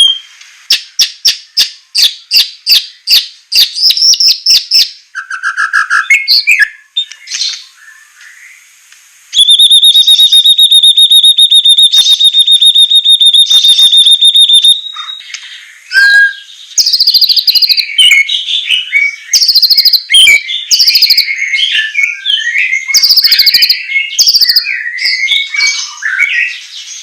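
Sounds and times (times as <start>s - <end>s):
bird singing with fast trills: 0.0s - 8.6s, 9.4s - 27.0s.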